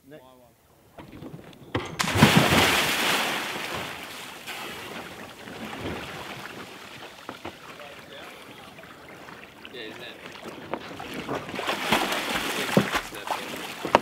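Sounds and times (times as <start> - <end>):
wind: 0.0 - 14.0
seawater splashing around hull: 0.7 - 14.0.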